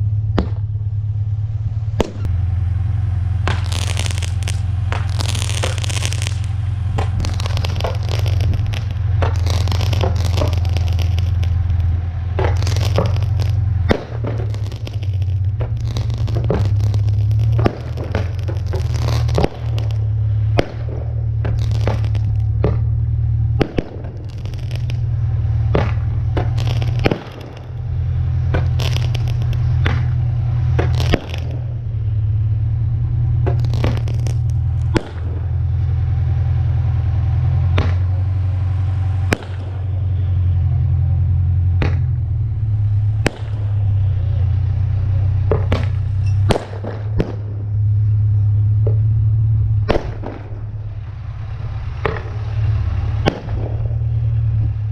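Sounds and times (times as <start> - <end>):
fireworks bangs and pops: 0.0 - 1.2, 1.8 - 54.9
fireworks crackling: 0.0 - 54.9
low rumble: 0.0 - 54.9.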